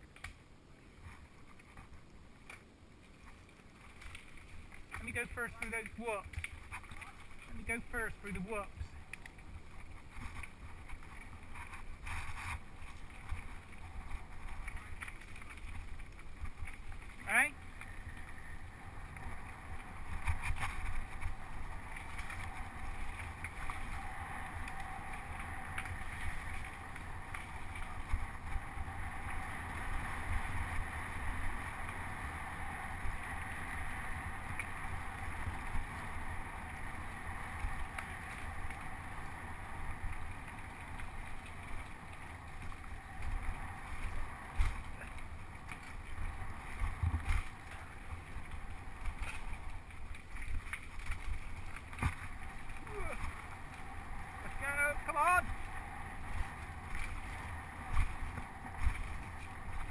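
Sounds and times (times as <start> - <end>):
tyres rolling on dirt: 1.0 - 59.9
wind rush on microphone: 7.9 - 59.9.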